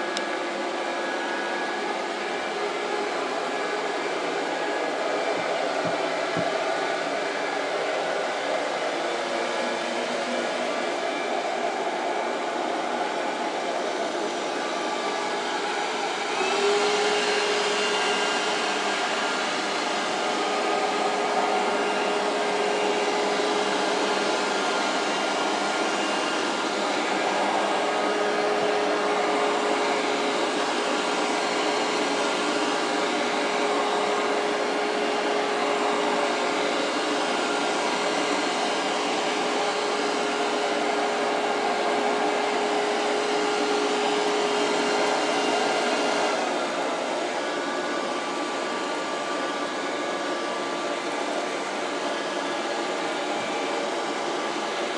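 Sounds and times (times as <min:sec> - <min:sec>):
robot vacuum cleaner whirring: 0:00.0 - 0:54.9.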